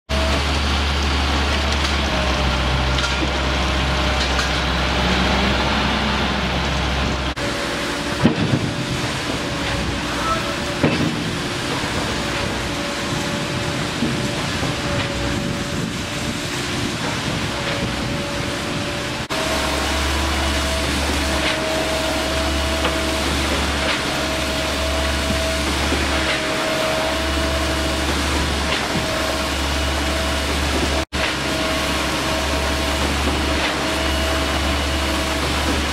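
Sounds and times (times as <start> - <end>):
concrete pump engine drone: 0.0 - 35.9.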